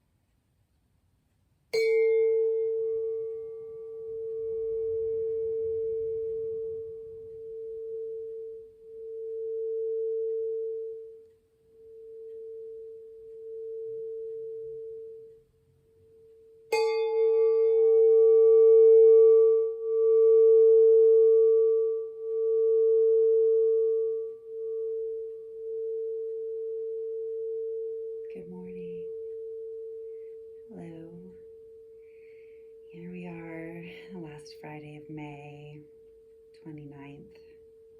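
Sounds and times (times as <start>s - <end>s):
singing bowl ringing: 1.7s - 37.9s.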